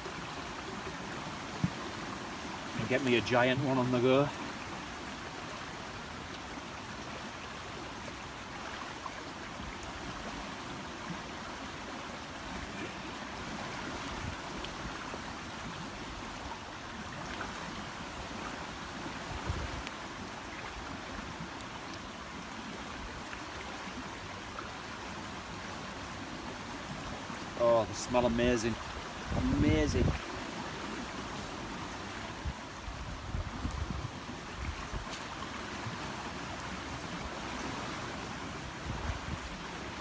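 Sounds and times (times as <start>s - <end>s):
river rushing: 0.0s - 40.0s.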